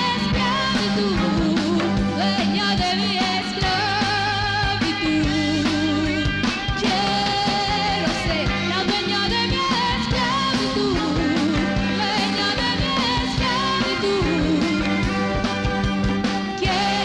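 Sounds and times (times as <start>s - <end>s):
person singing: 0.0s - 15.2s, 16.4s - 17.0s
bass guitar: 0.0s - 17.0s
drum kit with cymbals: 0.0s - 17.0s
electric guitar: 0.0s - 17.0s.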